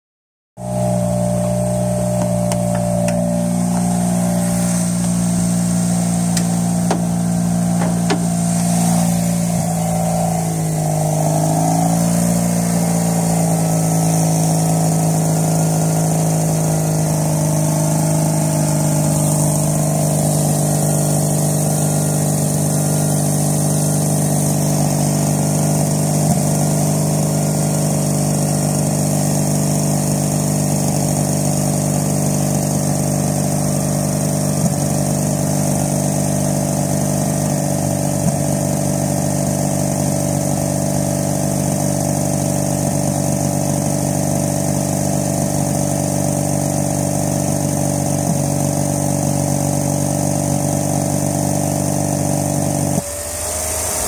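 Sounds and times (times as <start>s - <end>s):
rotary engine idling loudly: 0.6s - 54.0s.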